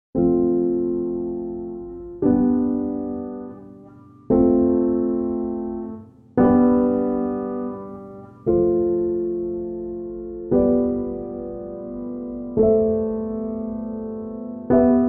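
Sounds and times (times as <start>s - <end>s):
slow piano chords: 0.2s - 15.0s.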